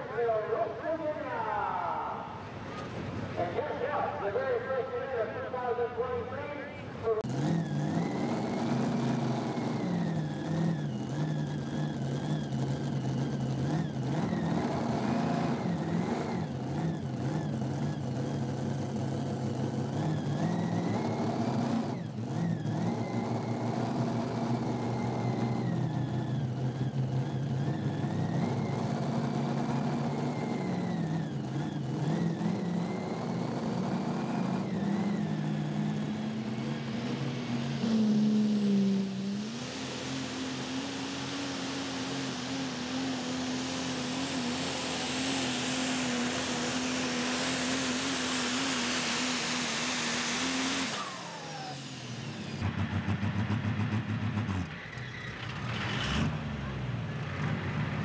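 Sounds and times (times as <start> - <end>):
diesel truck engine revving: 7.0 - 58.0.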